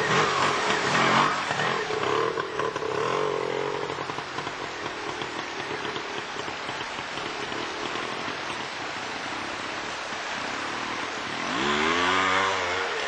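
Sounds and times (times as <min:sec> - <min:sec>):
motorcycle engine revving: 0:00.0 - 0:13.0
steady hiss: 0:00.0 - 0:13.0.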